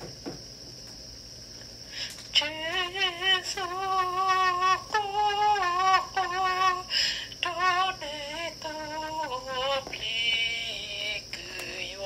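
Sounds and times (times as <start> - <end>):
woman singing through laptop speaker: 2.3 - 12.0.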